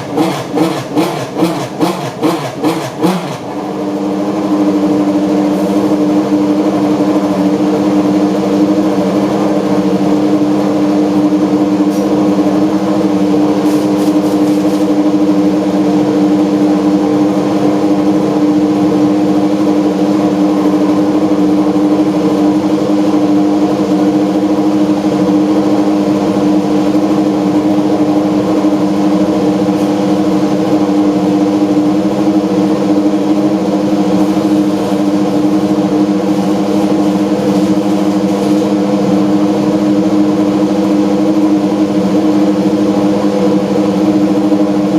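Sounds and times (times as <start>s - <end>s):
race car engine idling: 0.0s - 44.9s.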